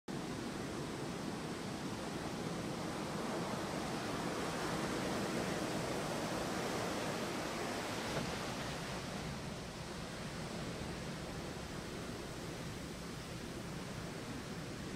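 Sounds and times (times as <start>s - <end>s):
ocean surf breaking on beach: 0.1s - 14.9s.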